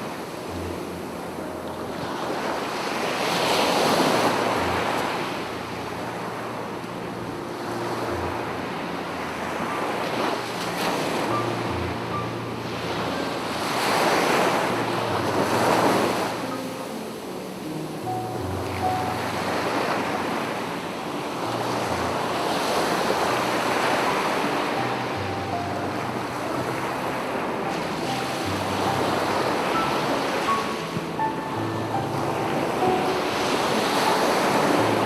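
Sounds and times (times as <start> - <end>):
ocean surf breaking: 0.0 - 35.0.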